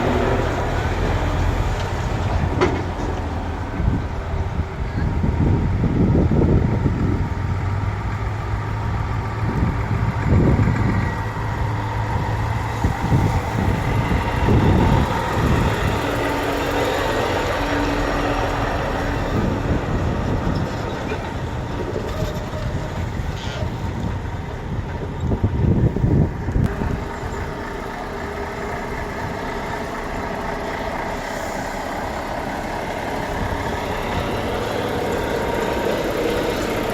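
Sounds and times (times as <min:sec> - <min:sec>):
diesel trucks driving past: 0:00.0 - 0:36.9.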